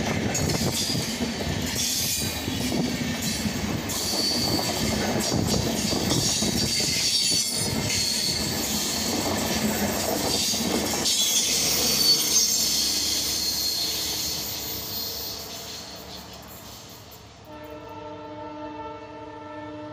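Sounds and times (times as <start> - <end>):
train wheels rushing on rail: 0.0 - 18.1.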